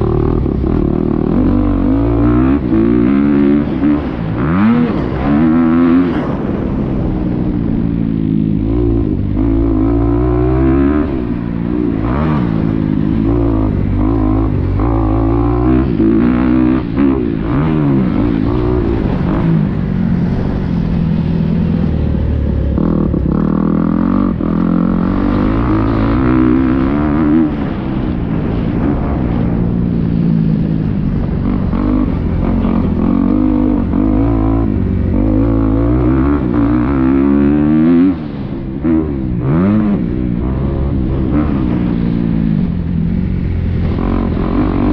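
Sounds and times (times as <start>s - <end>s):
motocross bike engine revving: 0.0s - 29.2s, 31.1s - 44.9s.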